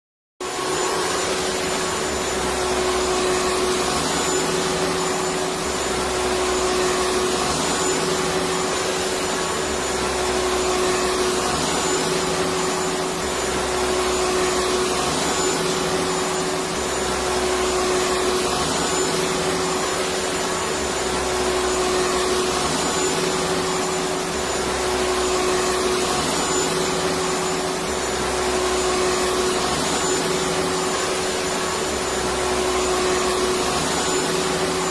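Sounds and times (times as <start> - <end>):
vacuum cleaner running: 0.4 - 34.9.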